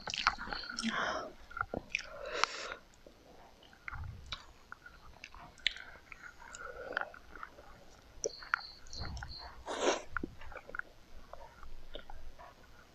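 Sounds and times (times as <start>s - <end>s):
person chewing food: 0.0s - 12.8s.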